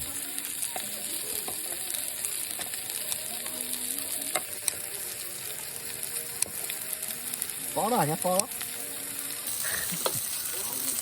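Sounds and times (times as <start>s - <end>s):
crackles: 0.0s - 11.0s
food sizzling in a pan: 0.0s - 11.0s.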